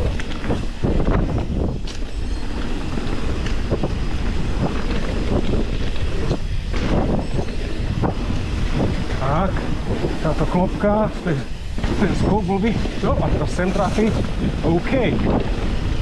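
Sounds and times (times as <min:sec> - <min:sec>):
bike rattling over rough ground: 0:00.0 - 0:16.0
wind buffeting microphone: 0:00.0 - 0:16.0.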